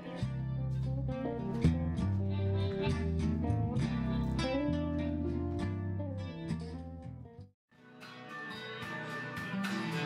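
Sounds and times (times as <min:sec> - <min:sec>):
blues band music: 0:00.0 - 0:07.4, 0:08.0 - 0:10.0
guitar strumming: 0:00.0 - 0:10.0.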